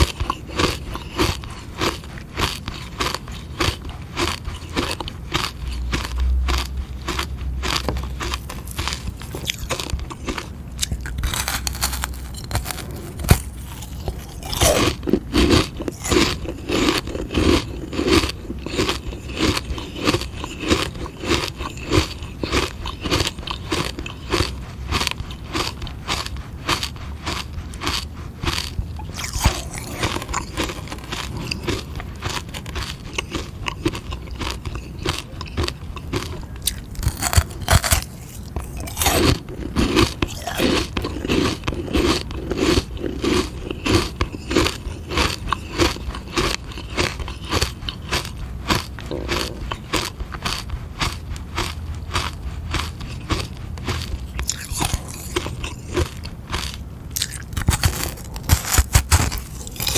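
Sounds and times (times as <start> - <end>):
crunching and chewing ice lolly: 0.0 - 59.9.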